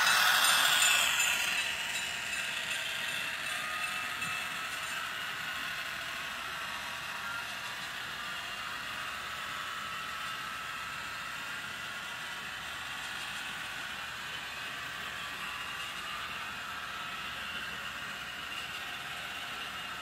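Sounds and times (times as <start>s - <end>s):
locomotive motor and gear noise: 0.0s - 20.0s
model train wheels on rails: 0.0s - 20.0s.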